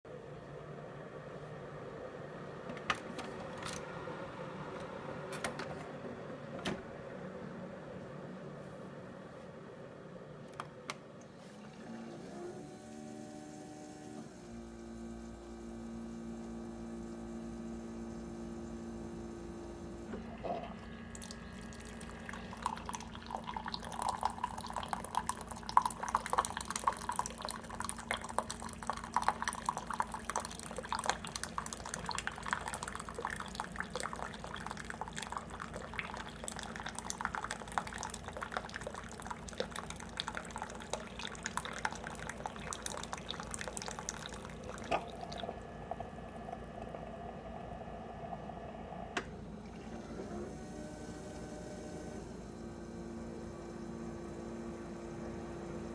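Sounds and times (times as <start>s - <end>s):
coffee maker humming: 0.1s - 55.9s.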